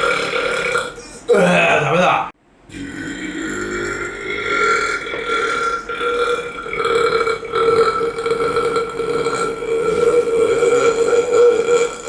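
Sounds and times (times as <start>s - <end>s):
man belching: 0.0s - 2.1s, 2.7s - 12.0s.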